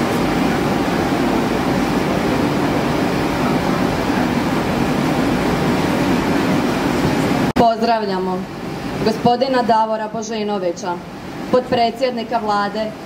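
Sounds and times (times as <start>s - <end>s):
industrial machinery noise: 0.0s - 13.0s.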